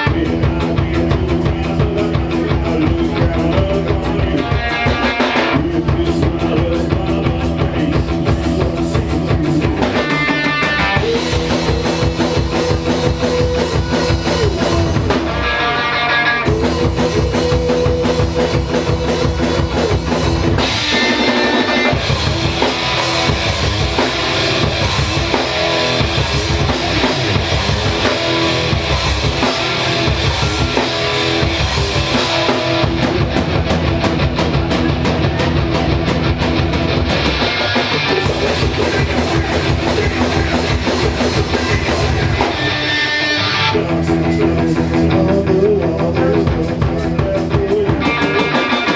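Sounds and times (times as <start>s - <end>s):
drum kit: 0.0s - 48.9s
guitar: 0.0s - 48.9s
live rock band playing: 0.0s - 48.9s.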